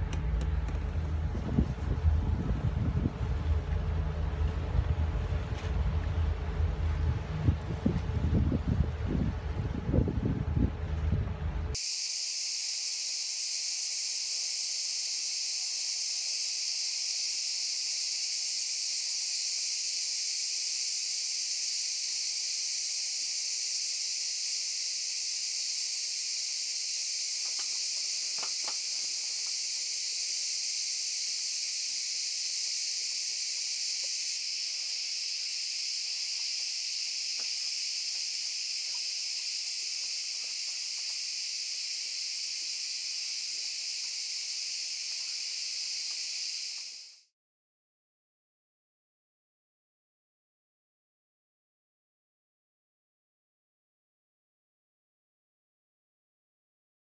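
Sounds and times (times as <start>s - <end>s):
cicadas buzzing: 0.0s - 47.3s.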